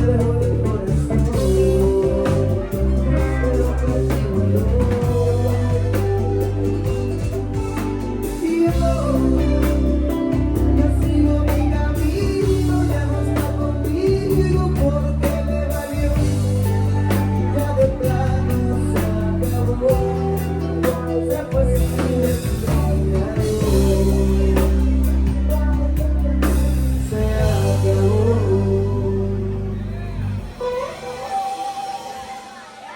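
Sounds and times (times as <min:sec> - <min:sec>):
steady drum beat: 0:00.0 - 0:28.9
heavy sustained bass line: 0:00.0 - 0:31.2
person singing: 0:00.0 - 0:32.9.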